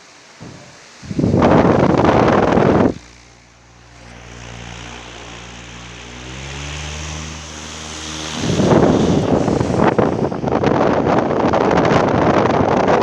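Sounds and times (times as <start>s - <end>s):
fan airflow buffeting microphone: 0.0s - 13.0s
fan motor hum: 0.0s - 13.0s.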